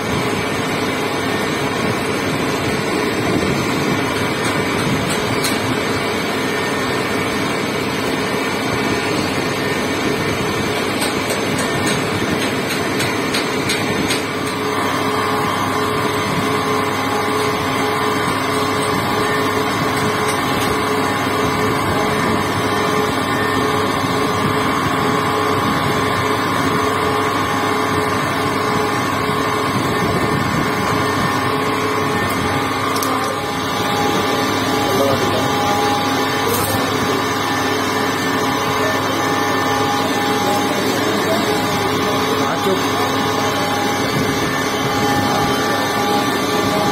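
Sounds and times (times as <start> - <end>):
metal lathe running: 0.0 - 46.9.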